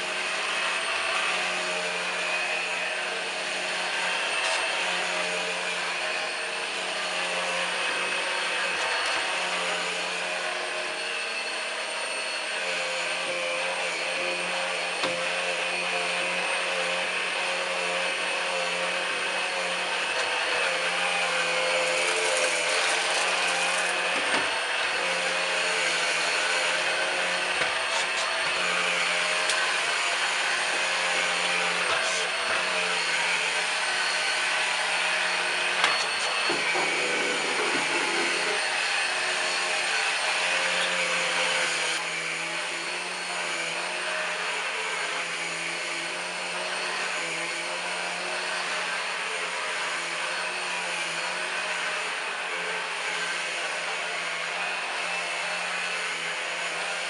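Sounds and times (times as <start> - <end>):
stick vacuum cleaner running: 0.0 - 57.0.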